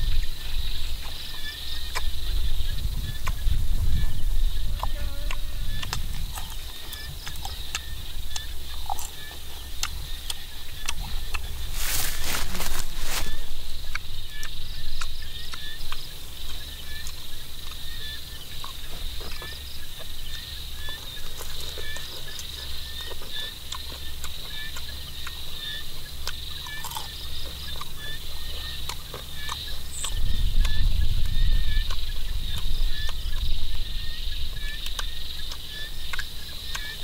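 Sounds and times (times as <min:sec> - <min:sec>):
rapid chirping calls: 0:00.0 - 0:37.0
crunchy shell being chewed: 0:04.6 - 0:17.9, 0:18.5 - 0:33.5, 0:34.8 - 0:37.0.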